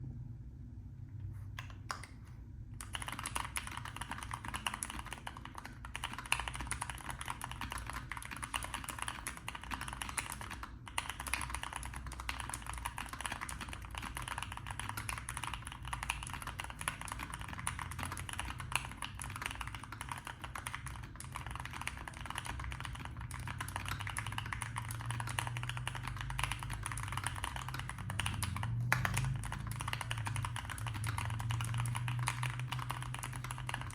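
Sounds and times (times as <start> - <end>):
mechanical keyboard typing: 2.8 - 33.9.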